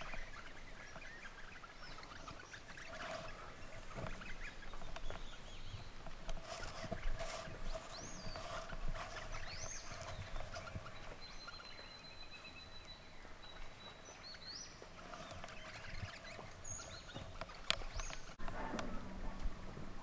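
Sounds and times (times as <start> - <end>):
birds whistling: 0.0 - 18.4.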